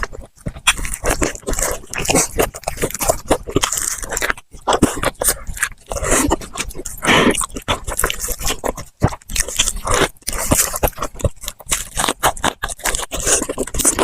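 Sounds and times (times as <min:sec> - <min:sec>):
crunching and chewing food: 0:00.0 - 0:14.0
wet mouth sounds: 0:00.0 - 0:14.0.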